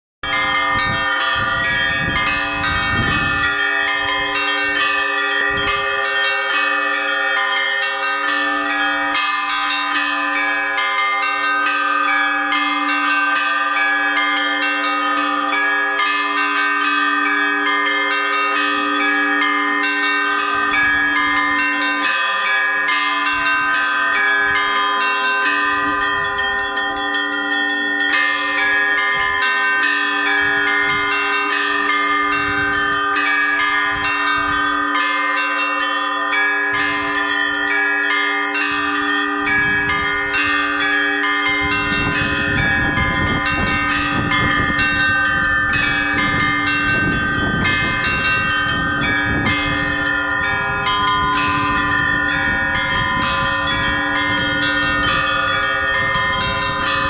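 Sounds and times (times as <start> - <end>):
church bells pealing: 0.2 - 57.0.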